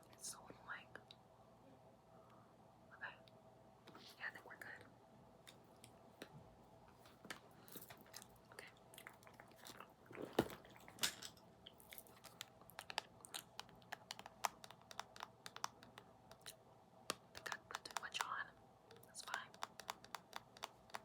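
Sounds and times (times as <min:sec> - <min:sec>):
quiet clicks and crackles: 0:03.0 - 0:21.0.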